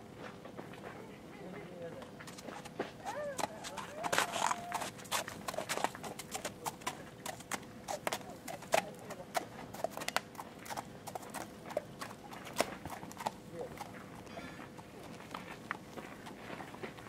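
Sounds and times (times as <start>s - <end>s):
horse hooves on muddy ground: 0.0s - 17.0s.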